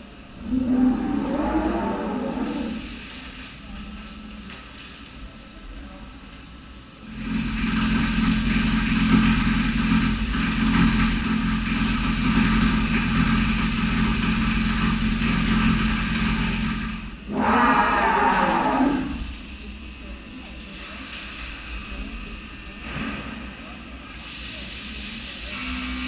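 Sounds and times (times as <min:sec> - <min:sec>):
machining center hum and hiss: 0:00.0 - 0:26.0.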